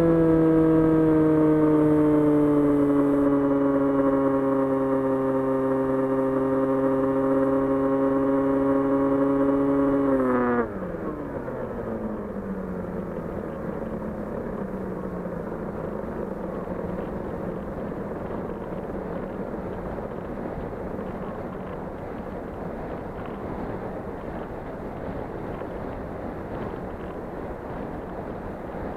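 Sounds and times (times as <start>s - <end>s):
electric motor and propeller whine: 0.0s - 28.9s.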